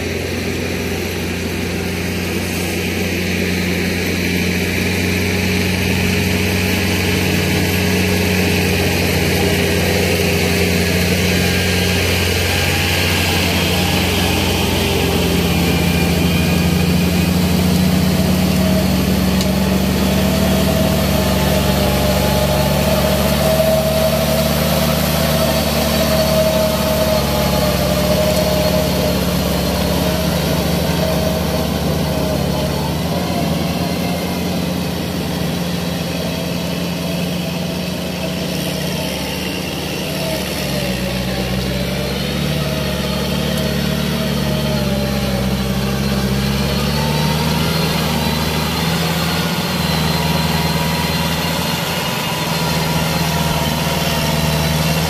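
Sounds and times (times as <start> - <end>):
high whine: 0.0 - 55.0
tractor diesel engine running: 0.0 - 55.0.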